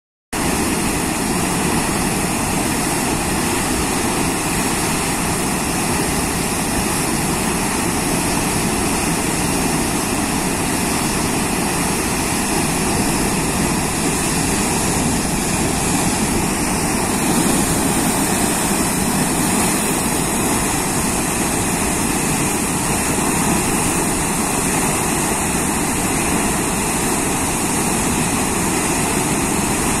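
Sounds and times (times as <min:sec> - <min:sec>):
water rushing over dam: 0:00.4 - 0:30.0.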